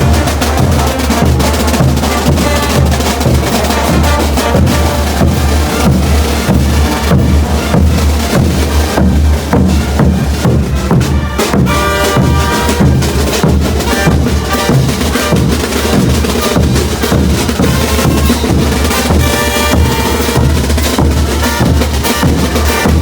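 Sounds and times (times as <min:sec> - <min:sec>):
bass drum and snare beat: 0:00.0 - 0:23.0
brass band playing: 0:00.0 - 0:23.0
horn lines: 0:00.0 - 0:23.0.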